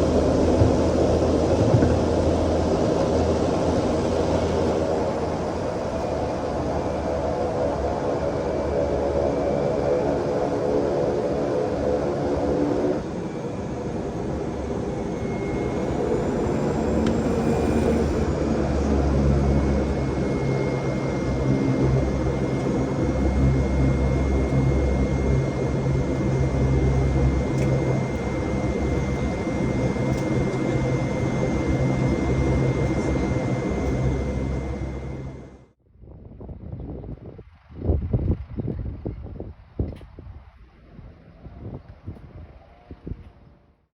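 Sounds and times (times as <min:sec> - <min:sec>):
high whine: 0:00.0 - 0:35.7
airplane engines droning: 0:00.0 - 0:35.8.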